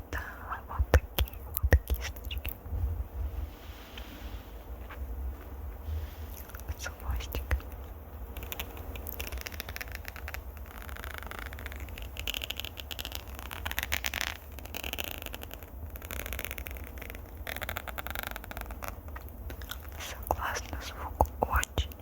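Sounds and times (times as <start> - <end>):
scratching on a microphone: 0.6 - 22.0.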